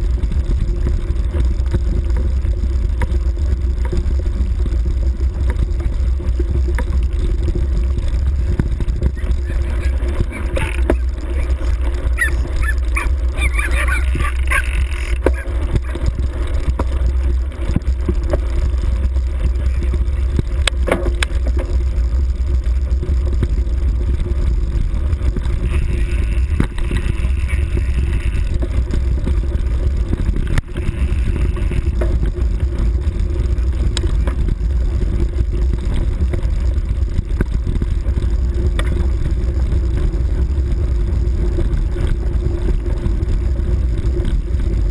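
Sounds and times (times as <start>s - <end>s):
low rumble of camera travel noise: 0.0s - 44.9s.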